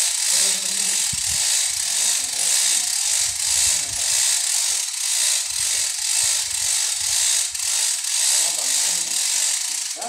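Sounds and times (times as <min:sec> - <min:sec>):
piling machine grinding hiss: 0:00.0 - 0:10.0.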